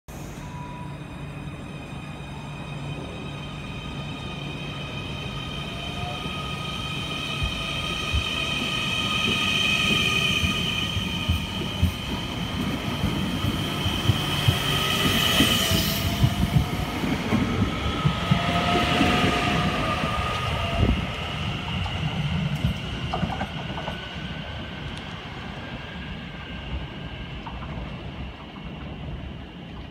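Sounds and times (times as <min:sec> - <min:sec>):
electric train whine: 0:00.1 - 0:29.9.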